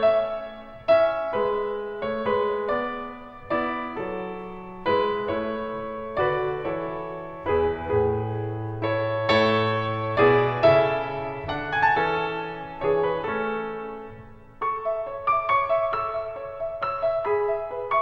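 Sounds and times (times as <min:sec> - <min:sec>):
slow solo piano chords: 0:00.0 - 0:18.0.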